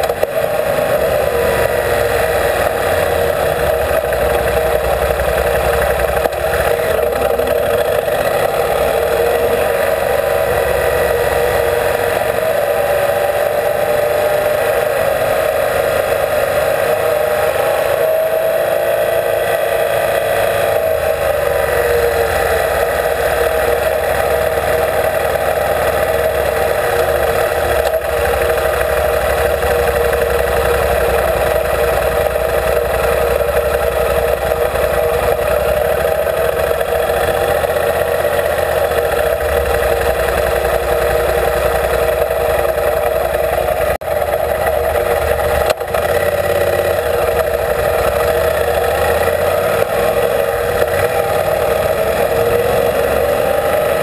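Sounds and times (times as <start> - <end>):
motorcycle engine running: 0.0 - 54.0
road noise: 0.0 - 54.0.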